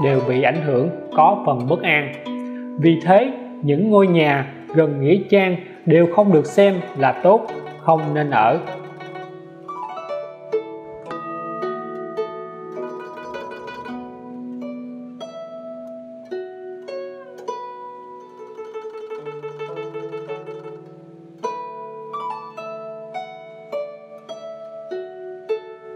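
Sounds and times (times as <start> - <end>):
plucked zither notes: 0.0 - 25.9.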